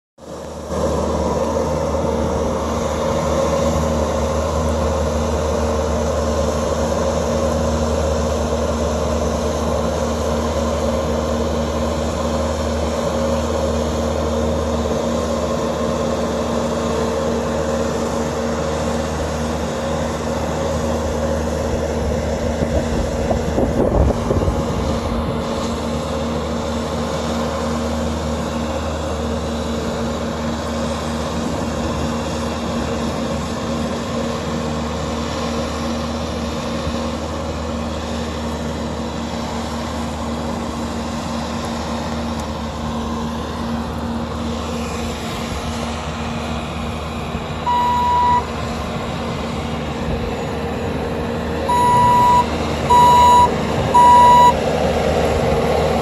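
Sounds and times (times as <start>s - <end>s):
diesel engine at high throttle: 0.2s - 56.0s.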